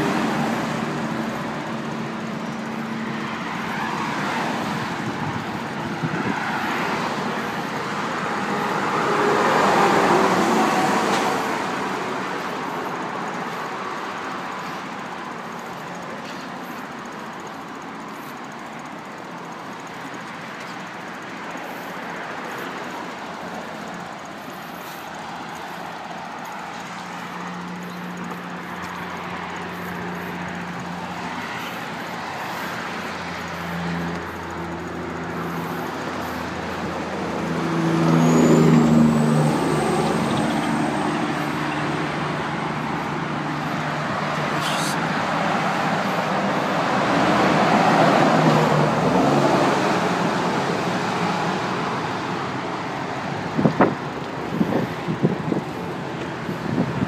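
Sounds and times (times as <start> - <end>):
traffic noise: 0.0 - 57.0
vehicle engine hum: 0.0 - 57.0.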